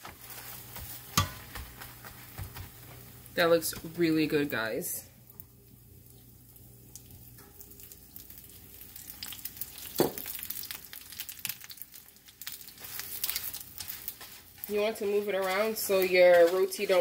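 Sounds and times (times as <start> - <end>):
fat sizzling and crackling in a skillet: 0.0 - 17.0.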